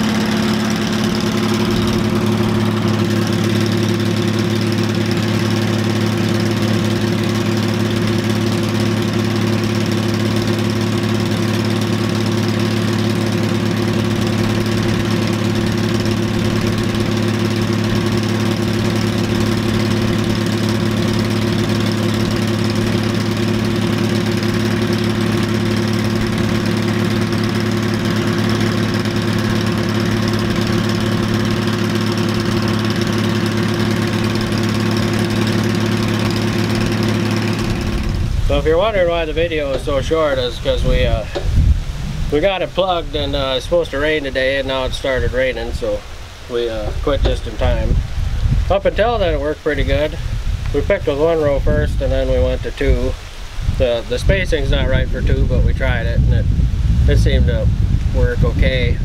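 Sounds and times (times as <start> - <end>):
unloading auger running: 0.0 - 48.0
combine harvester running: 0.0 - 59.0.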